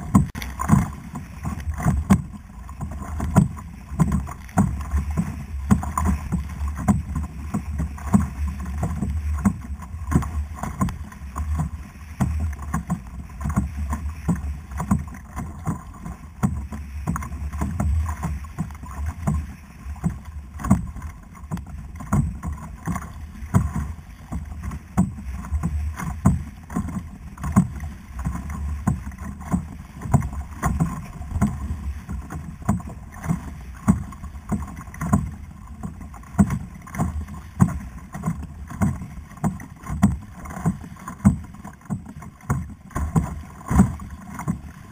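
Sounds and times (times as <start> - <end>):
water slapping kayak hull: 0.0 - 44.9.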